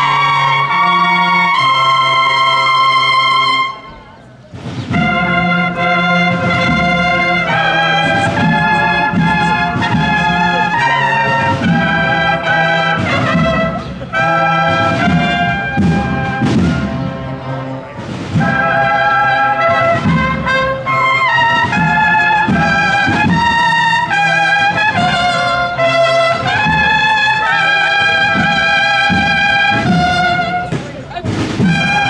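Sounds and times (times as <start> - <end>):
brass band playing: 0.0 - 32.0
trumpets holding notes: 0.0 - 32.0.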